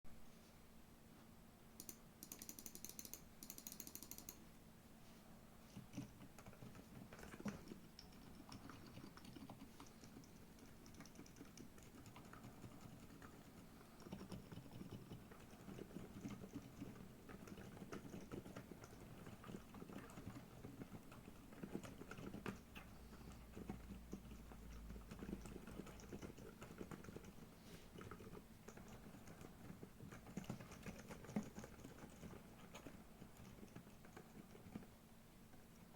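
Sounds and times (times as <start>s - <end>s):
soft keyboard keystrokes: 1.8s - 4.4s, 5.7s - 34.9s.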